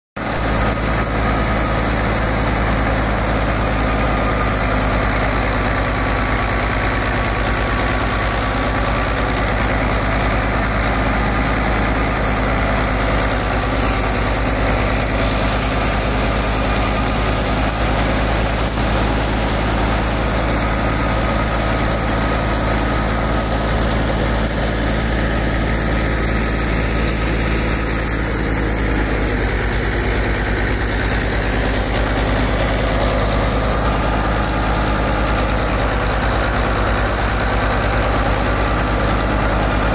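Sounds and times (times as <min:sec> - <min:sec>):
thresher machinery running: 0:00.2 - 0:39.9
tractor diesel engine running: 0:00.2 - 0:39.9.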